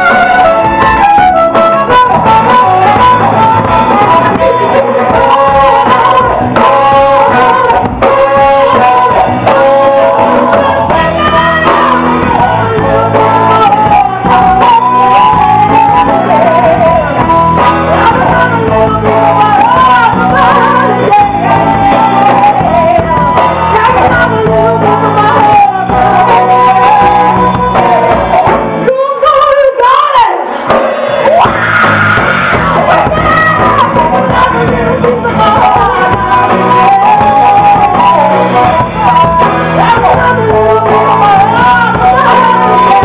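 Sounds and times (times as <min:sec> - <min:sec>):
live band music: 0:00.0 - 0:43.0
woman singing: 0:00.0 - 0:43.0.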